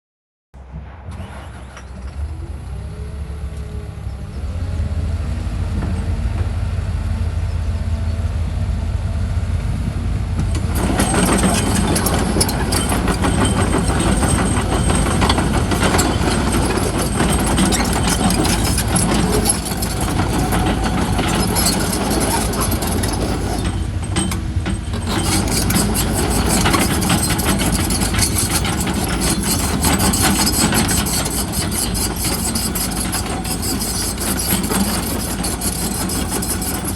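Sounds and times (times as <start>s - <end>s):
excavator diesel engine running: 0.7s - 36.9s.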